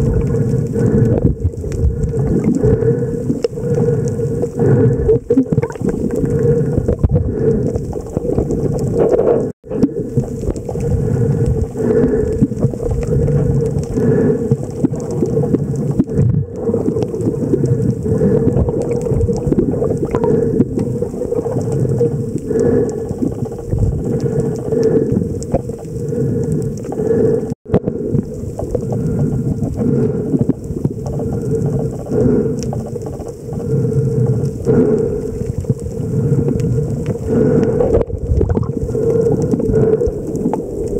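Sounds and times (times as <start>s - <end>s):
faint underwater clicks: 0.0s - 40.9s
underwater water rumble: 0.0s - 40.9s.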